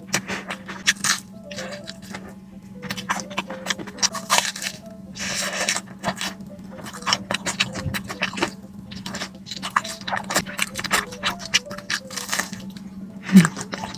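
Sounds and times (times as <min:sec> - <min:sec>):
crunching and chewing food: 0:00.0 - 0:13.9
steady low hum: 0:00.0 - 0:13.9.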